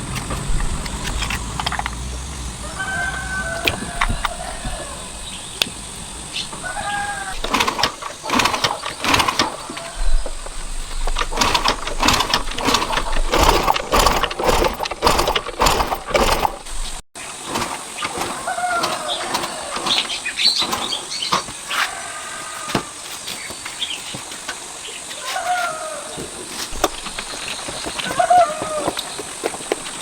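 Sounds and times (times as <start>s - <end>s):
rapid mechanical clatter: 0.0s - 21.5s, 26.7s - 30.0s
birds chirping: 0.0s - 30.0s
quiet rural background: 0.0s - 30.0s.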